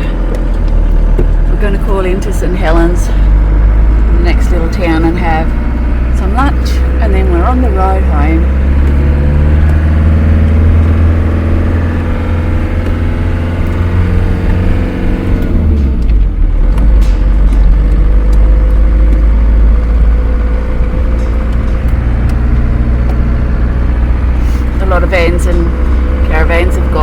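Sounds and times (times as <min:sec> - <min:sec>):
campervan engine rumble: 0:00.0 - 0:27.0
road noise: 0:00.0 - 0:27.0.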